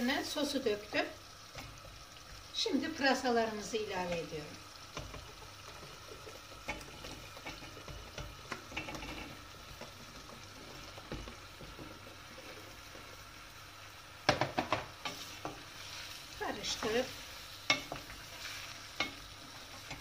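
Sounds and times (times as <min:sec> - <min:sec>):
faint sizzle: 0:00.0 - 0:20.0.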